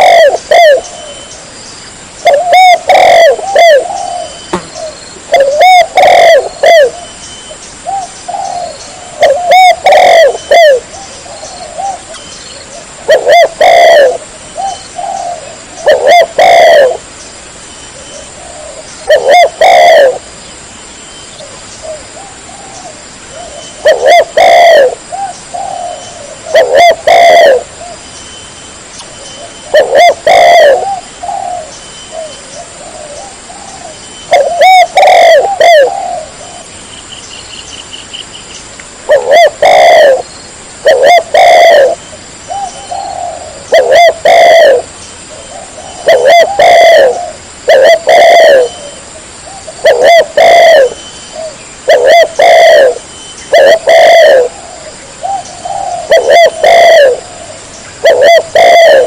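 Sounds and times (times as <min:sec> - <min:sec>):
dove cooing: 0:00.0 - 0:01.3, 0:02.2 - 0:17.1, 0:18.0 - 0:20.4, 0:21.4 - 0:28.0, 0:29.4 - 0:36.8, 0:39.0 - 0:59.0.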